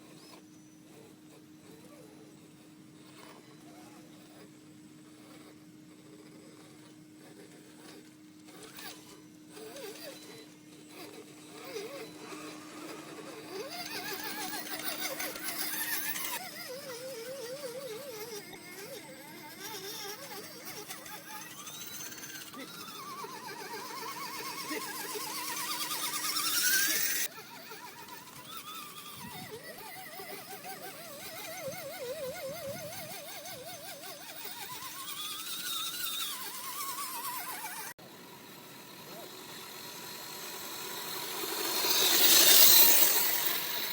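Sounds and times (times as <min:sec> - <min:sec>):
electric motor whining: 0:00.0 - 0:43.9.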